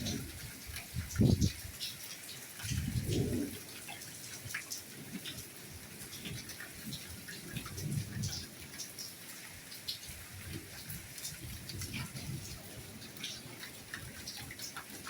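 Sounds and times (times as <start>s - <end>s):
soft rainfall: 0.0s - 15.0s.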